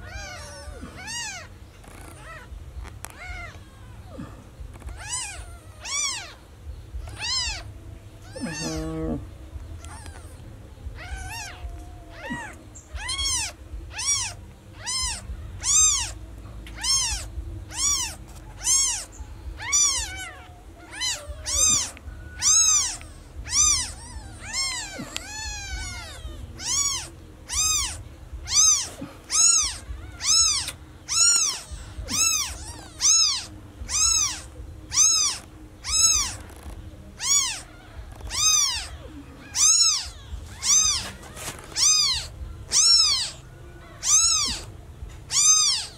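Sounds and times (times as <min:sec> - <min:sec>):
kittens meowing: 0:00.0 - 0:45.9.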